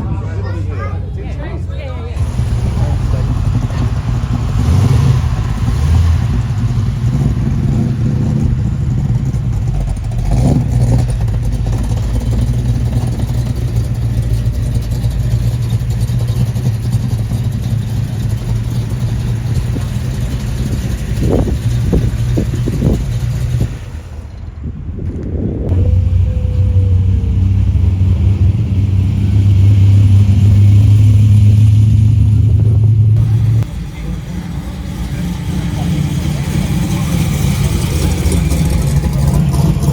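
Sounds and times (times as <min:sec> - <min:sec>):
engine revving: 0:00.0 - 0:24.8, 0:25.6 - 0:39.9
car engine running: 0:00.0 - 0:39.9.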